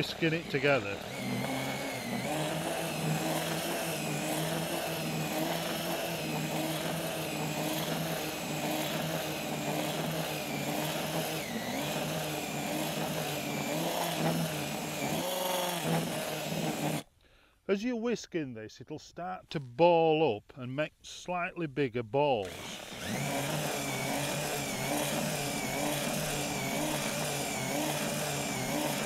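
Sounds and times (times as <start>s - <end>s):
cordless drill mixing whisk running: 0.0s - 17.1s, 22.4s - 29.0s.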